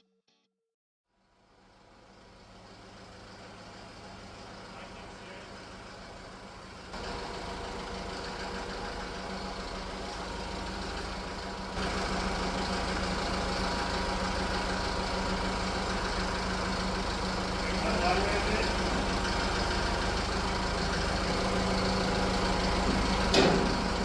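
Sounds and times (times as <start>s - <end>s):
heavy diesel engine idling: 1.3s - 24.0s.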